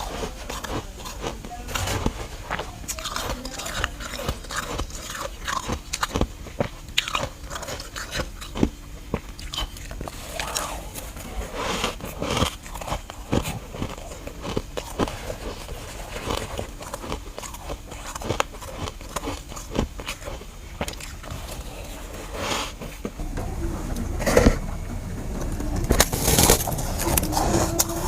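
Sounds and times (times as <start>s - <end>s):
chewing crunchy frost: 0.0s - 28.0s.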